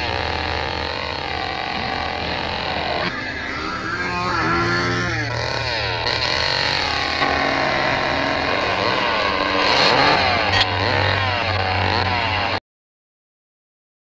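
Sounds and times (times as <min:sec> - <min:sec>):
sharp crack: 0:00.0 - 0:03.3, 0:04.6 - 0:12.6
chainsaw engine revving: 0:00.0 - 0:12.6.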